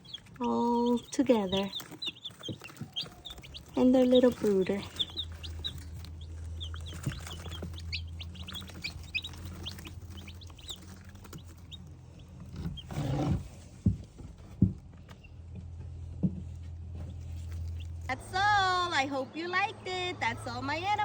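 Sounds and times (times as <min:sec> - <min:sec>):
baby chicks peeping: 0:00.0 - 0:18.2.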